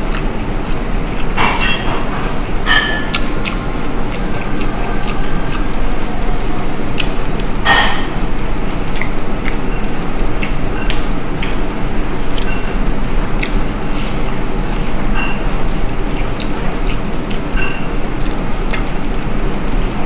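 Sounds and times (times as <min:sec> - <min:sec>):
person chewing with mouth smacks: 0:00.0 - 0:01.4, 0:03.0 - 0:20.0
steady background noise: 0:00.0 - 0:20.0.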